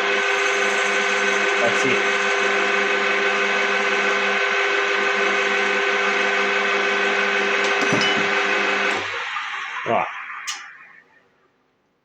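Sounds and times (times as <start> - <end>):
metal lathe motor and gear whine: 0.0 - 11.2.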